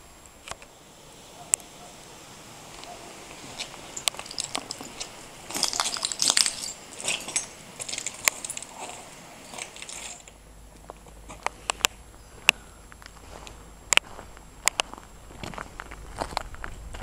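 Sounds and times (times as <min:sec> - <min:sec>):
footsteps crunching on debris: 0:02.7 - 0:17.0.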